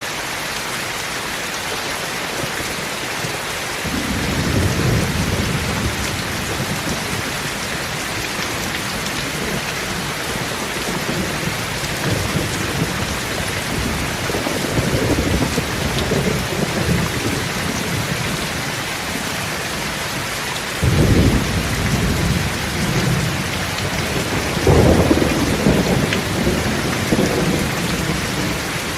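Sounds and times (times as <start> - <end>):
steady rain hiss: 0.0 - 28.9
thunder rumbling: 3.8 - 19.8, 20.8 - 28.9.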